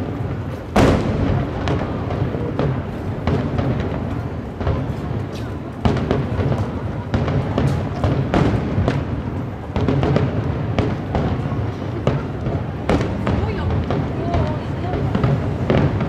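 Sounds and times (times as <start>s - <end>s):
fireworks booms and cracks: 0.0s - 16.0s.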